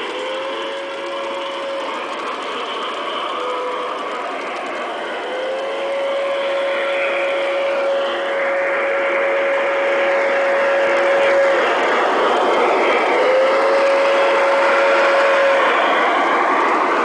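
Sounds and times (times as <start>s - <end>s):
model steam locomotive running: 0.0s - 17.0s
steady held tone: 0.0s - 17.0s.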